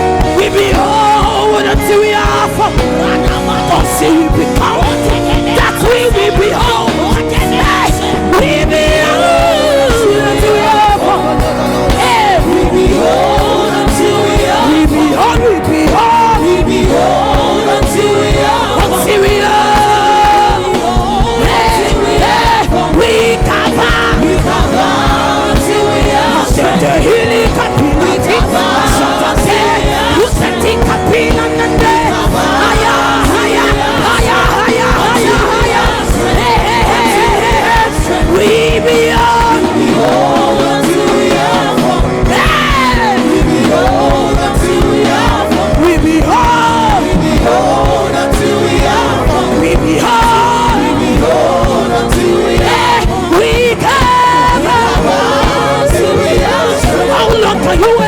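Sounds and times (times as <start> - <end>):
band playing: 0.0 - 58.0
person singing: 0.0 - 58.0
steady drum beat: 0.0 - 58.0.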